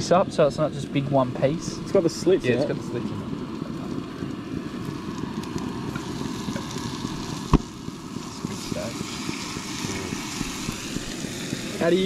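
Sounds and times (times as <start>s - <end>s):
frying pan sizzling: 0.0s - 12.0s.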